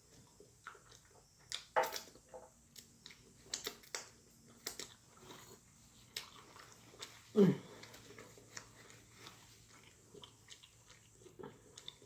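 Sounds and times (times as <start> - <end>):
chewing with wet smacks: 0.0 - 12.0.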